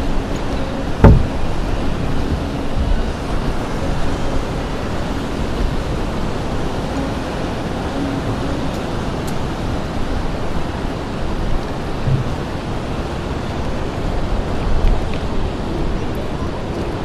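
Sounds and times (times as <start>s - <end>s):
ocean surf: 0.0s - 17.0s
wind rumbling on microphone: 0.0s - 17.0s.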